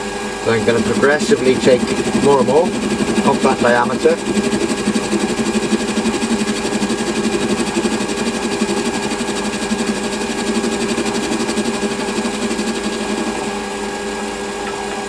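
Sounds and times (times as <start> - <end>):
lathe humming with fast pulsing: 0.0 - 15.0.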